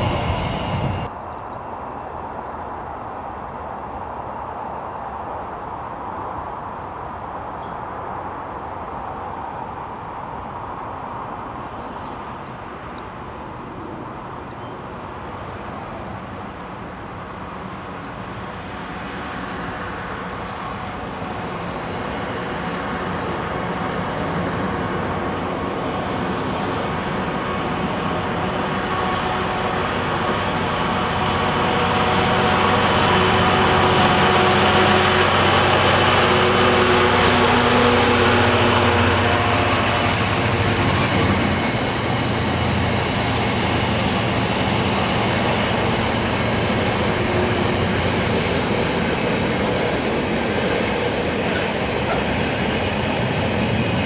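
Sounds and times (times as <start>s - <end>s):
train droning: 0.0s - 5.0s, 9.4s - 54.0s.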